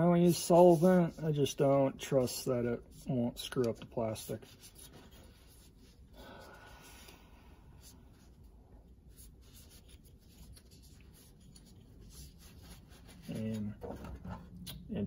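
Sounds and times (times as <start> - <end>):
cloth wiping plastic: 0.0 - 6.2, 7.8 - 14.6.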